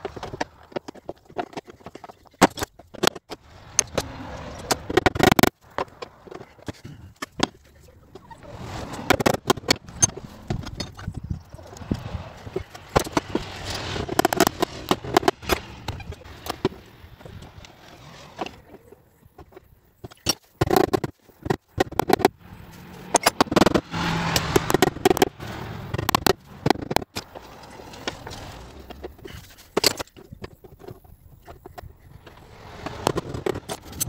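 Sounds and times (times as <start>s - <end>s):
metal scraping: 0.0s - 34.0s.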